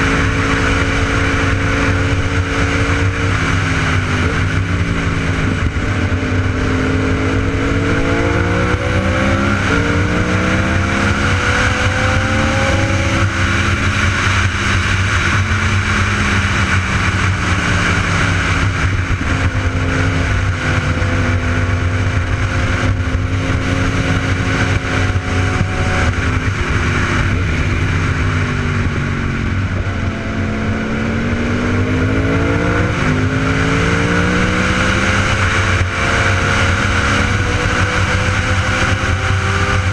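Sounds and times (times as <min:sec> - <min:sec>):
constant rushing noise: 0:00.0 - 0:39.9
motorcycle engine accelerating: 0:00.0 - 0:39.9.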